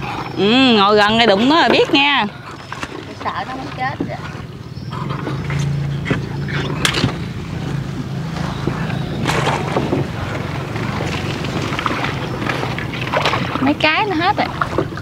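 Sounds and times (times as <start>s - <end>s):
paddles stroking through water: 0.0s - 15.0s.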